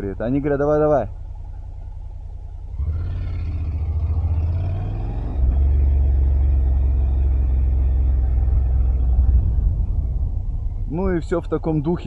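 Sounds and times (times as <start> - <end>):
motorcycle engine running: 0.0 - 4.7, 5.4 - 12.0.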